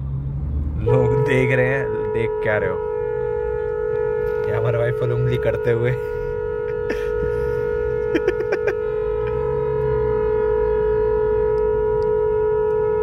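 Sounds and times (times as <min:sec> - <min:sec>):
car horn honking: 0:00.8 - 0:13.0.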